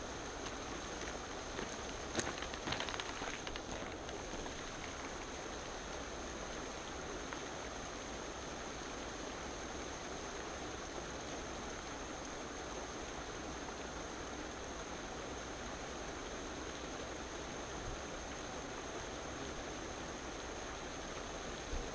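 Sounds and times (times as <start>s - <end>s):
steady outdoor hiss: 0.0s - 21.9s.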